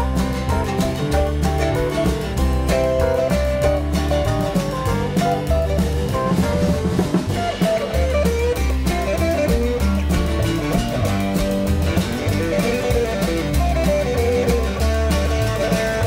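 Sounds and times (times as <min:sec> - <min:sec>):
bass line: 0:00.0 - 0:16.0
drums: 0:00.0 - 0:16.0
electric guitar lead melody: 0:00.0 - 0:16.0.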